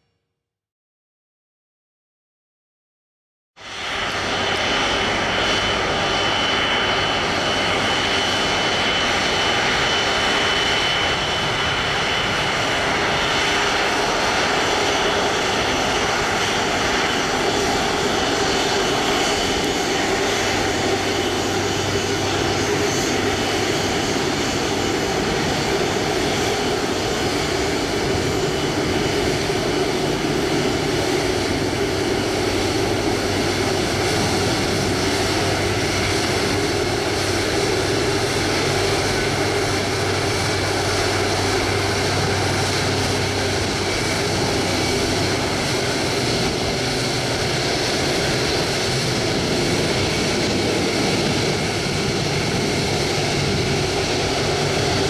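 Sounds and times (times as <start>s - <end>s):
jet engines rumbling: 3.6s - 55.0s.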